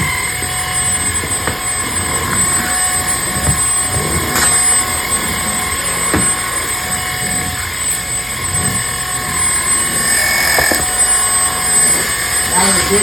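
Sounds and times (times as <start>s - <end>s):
vacuum motor whine: 0.0s - 13.0s.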